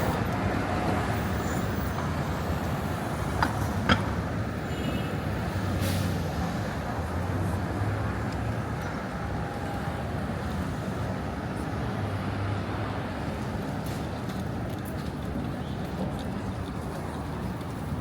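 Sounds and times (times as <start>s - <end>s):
street traffic noise: 0.0s - 18.0s.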